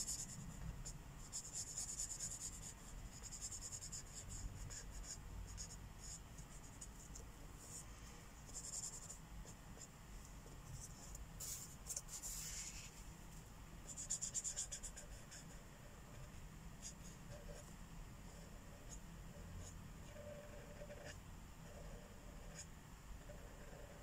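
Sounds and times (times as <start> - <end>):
marker scratching on paper: 0.0 - 7.8, 8.5 - 13.0, 13.9 - 17.7, 18.3 - 24.0.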